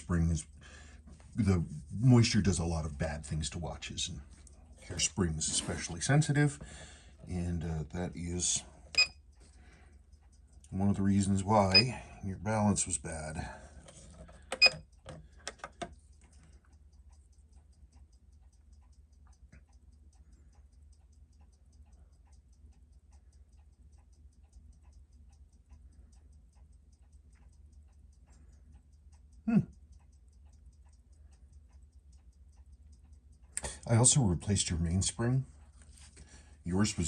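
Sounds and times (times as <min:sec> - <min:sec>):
watch ticking: 0:00.0 - 0:13.7, 0:14.3 - 0:37.0.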